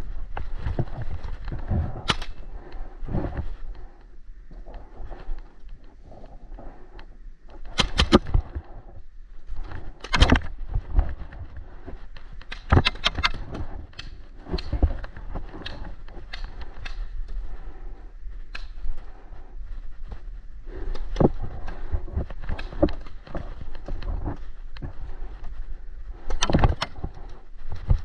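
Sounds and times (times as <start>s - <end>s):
rustling of movement: 0.0s - 28.0s.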